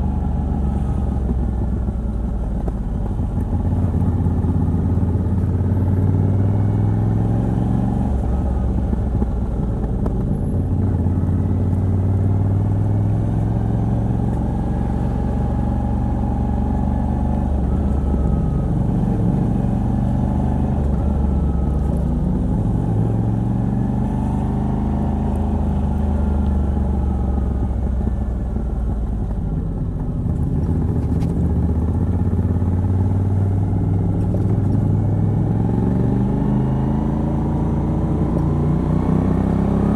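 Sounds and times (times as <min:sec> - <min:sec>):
motorcycle engine revving: 0:02.7 - 0:28.2, 0:28.8 - 0:39.9.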